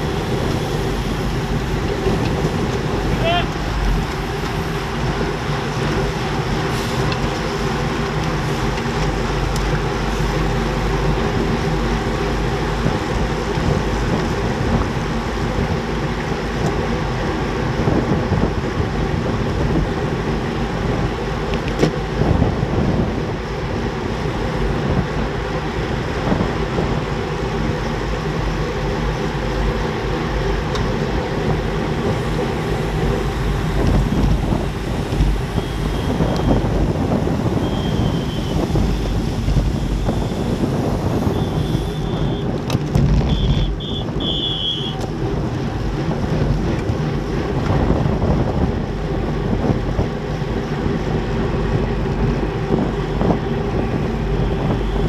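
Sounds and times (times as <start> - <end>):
bicycle tyres humming on asphalt: 0.0 - 55.0
wind rushing over microphone: 0.0 - 55.0.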